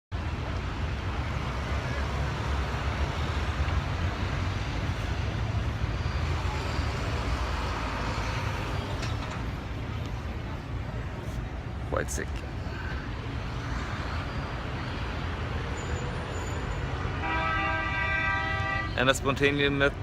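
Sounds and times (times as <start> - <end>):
road or wind noise: 0.1 - 20.0
vehicle engine rumbling: 0.1 - 20.0.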